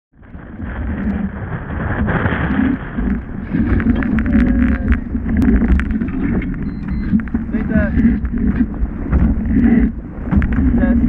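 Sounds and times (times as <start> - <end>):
water rushing past hull: 0.2 - 11.0
wind buffeting microphone: 0.2 - 11.0.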